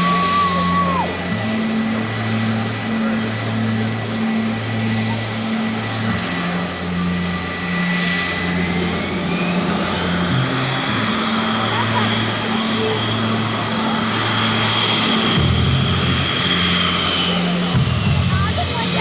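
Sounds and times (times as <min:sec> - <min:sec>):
jet engines idling whine: 0:00.0 - 0:19.0.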